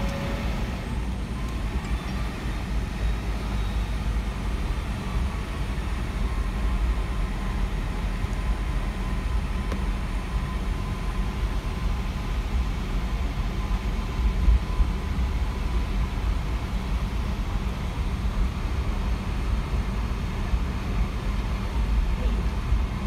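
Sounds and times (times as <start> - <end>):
aircraft engine rumble: 0.0 - 23.0
faint steady whine: 0.0 - 23.0.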